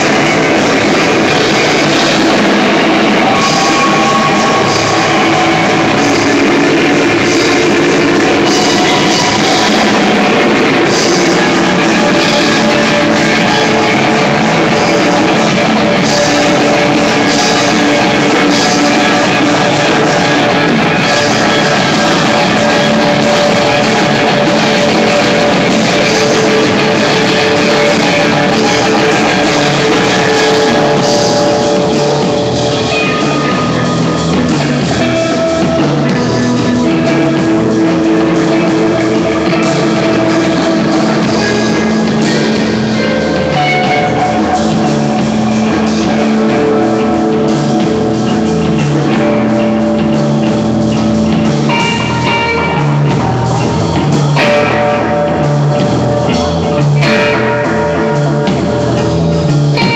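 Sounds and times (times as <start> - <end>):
distorted electric guitars: 0.0 - 59.9
drum kit: 0.0 - 59.9
live rock band playing: 0.0 - 59.9.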